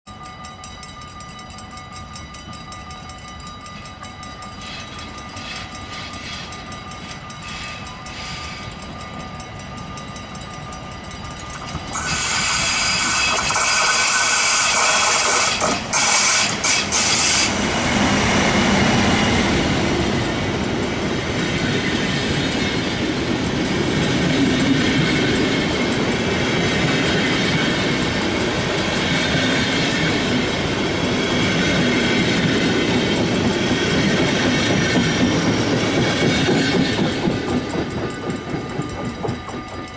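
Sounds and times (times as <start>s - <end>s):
electric locomotive passing: 0.1s - 39.9s
train coaches rumbling: 0.1s - 39.9s
train wheels clattering: 0.3s - 20.0s, 20.6s - 39.9s.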